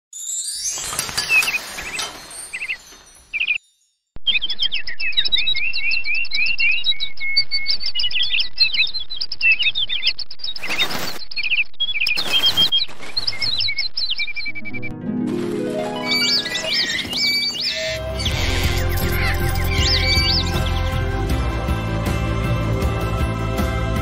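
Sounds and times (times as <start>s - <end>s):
songbirds chirping: 1.1s - 15.0s, 15.8s - 21.5s.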